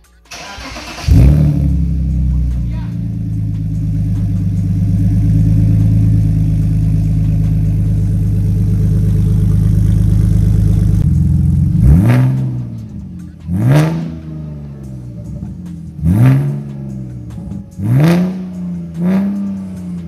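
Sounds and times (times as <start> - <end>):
car engine idling: 0.0 - 20.0
engine revving: 0.3 - 20.0.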